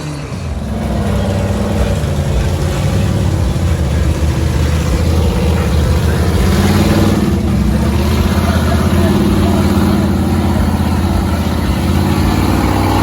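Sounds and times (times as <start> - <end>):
truck engine running loudly: 0.0 - 13.0.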